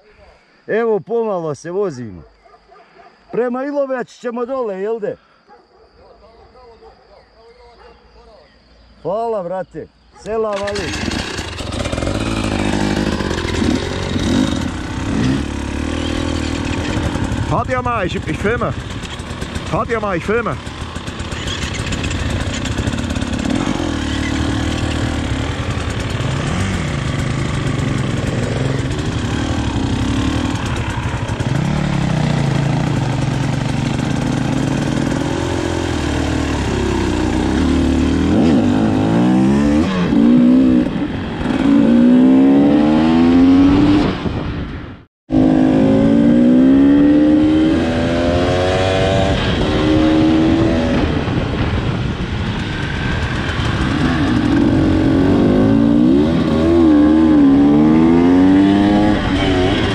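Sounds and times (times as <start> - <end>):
motorcycle engines revving: 10.3 - 59.9.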